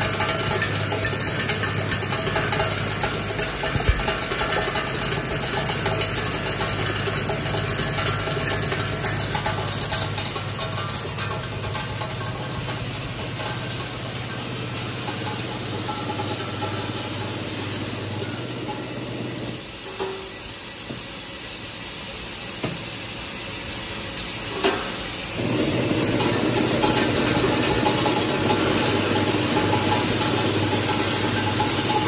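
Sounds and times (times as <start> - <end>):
machine humming: 0.0 - 19.9, 25.4 - 32.0.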